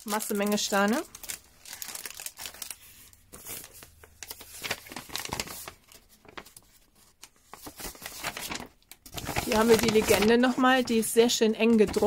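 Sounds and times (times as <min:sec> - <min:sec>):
paper sheet rustling: 0:00.0 - 0:12.0
plastic bags crinkling: 0:00.0 - 0:12.0.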